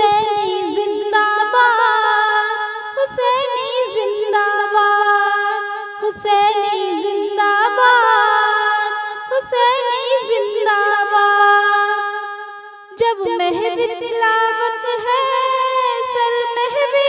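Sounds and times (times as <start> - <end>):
woman singing in high voice: 0.0 - 12.3, 12.9 - 17.0.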